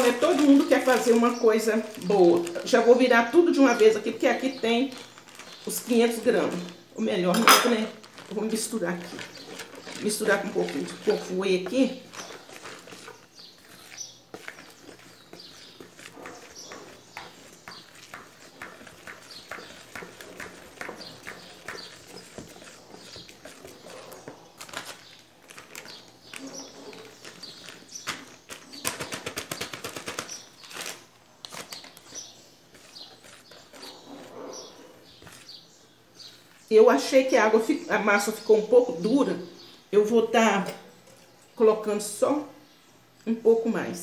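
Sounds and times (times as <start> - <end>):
dough mixed by hand in bowl: 0.0 - 39.3.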